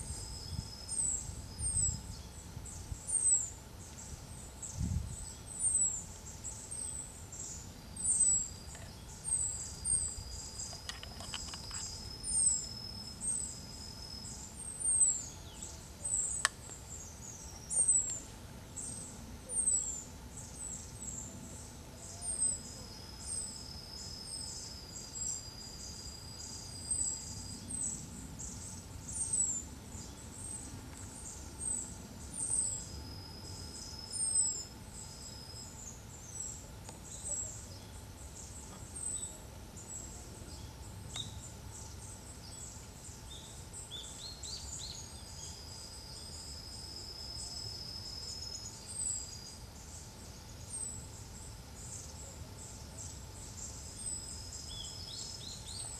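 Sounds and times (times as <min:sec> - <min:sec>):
high insect trill: 0:00.0 - 0:55.9.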